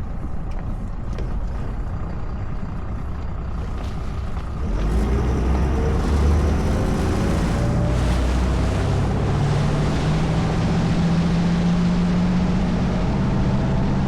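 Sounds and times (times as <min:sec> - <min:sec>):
motorboat engine running: 0:00.0 - 0:14.0
water noise: 0:00.0 - 0:14.0.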